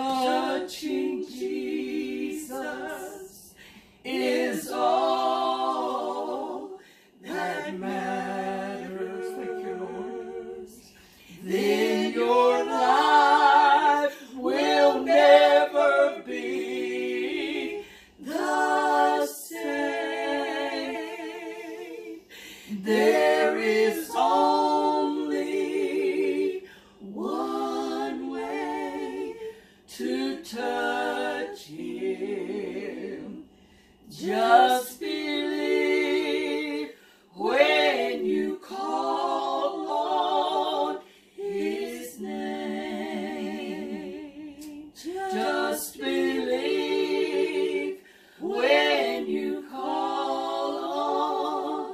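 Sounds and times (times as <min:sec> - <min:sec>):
women singing a cappella: 0:00.0 - 0:51.9.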